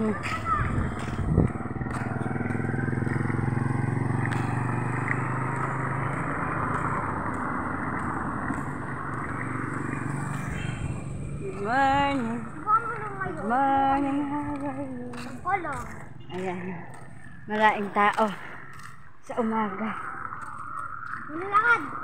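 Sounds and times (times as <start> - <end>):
motorcycle passing by: 0.0 - 22.0.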